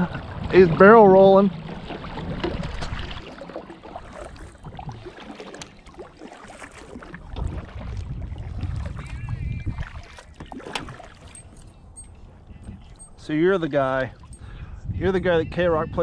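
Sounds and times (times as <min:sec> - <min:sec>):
water sloshing around kayak: 0:00.0 - 0:14.8.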